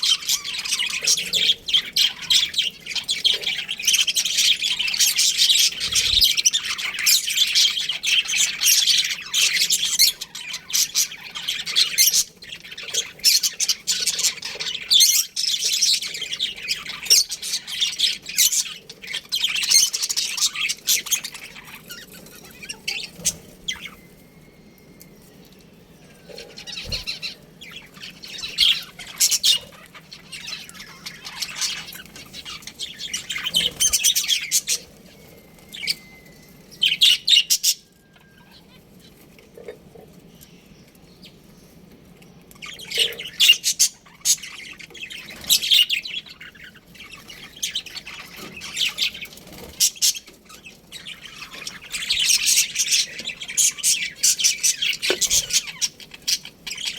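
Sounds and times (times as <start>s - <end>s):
budgerigars chattering and chirping: 0.0s - 56.9s.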